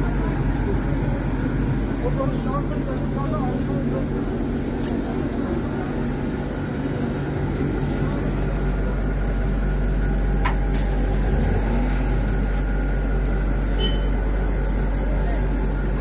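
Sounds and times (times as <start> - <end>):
indistinct voices: 0.0 - 16.0
low mechanical rumble and hum: 0.0 - 16.0.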